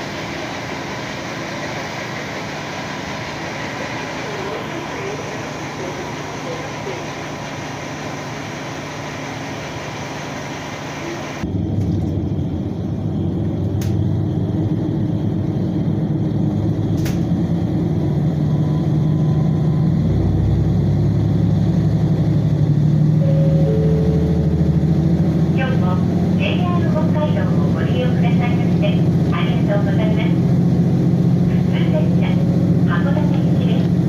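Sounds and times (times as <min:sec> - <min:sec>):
train engine drone: 0:00.0 - 0:34.0.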